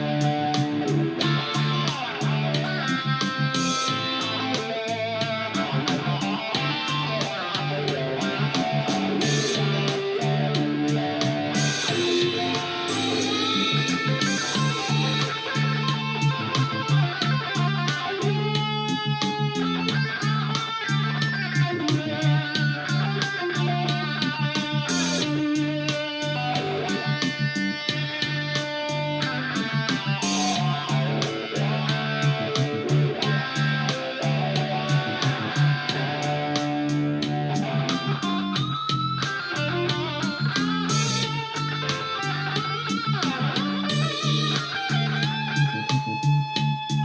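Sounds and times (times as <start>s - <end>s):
guitar playing: 0.0s - 47.0s
low bass notes: 0.0s - 47.0s
steady beat: 0.0s - 47.0s.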